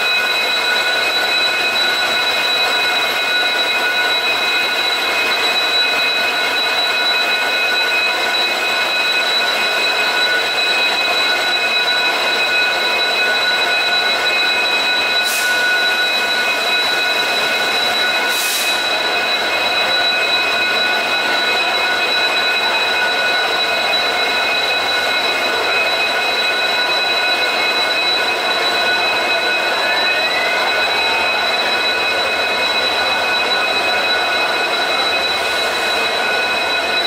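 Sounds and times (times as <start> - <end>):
diesel machinery drone: 0.0 - 37.0
high steady whines: 0.0 - 37.0.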